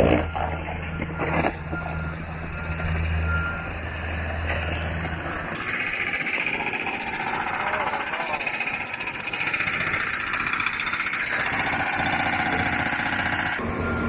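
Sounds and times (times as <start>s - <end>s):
excavator diesel engine hum: 0.0s - 14.0s
warning alarm beeping: 0.0s - 14.0s.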